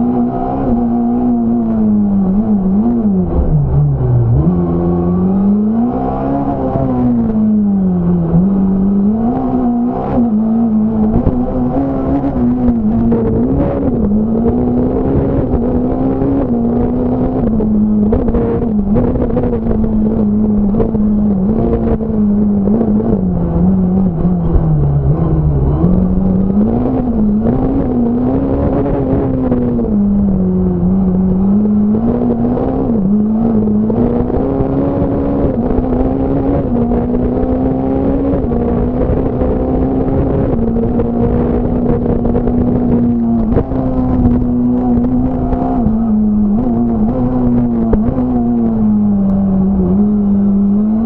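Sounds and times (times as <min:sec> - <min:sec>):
rally car engine revving: 0:00.0 - 0:51.0.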